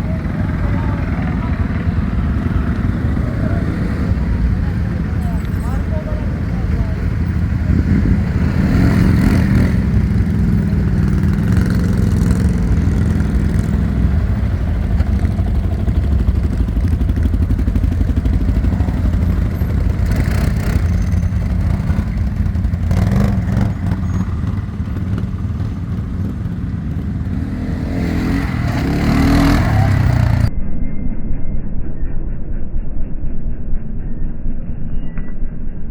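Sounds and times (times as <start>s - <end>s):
atv engine running: 0.0s - 30.5s.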